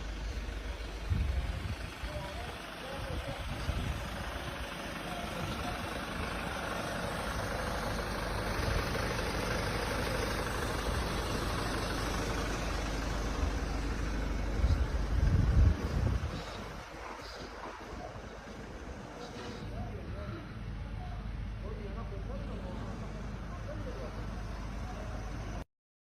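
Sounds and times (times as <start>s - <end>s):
engine running: 0.0s - 25.6s.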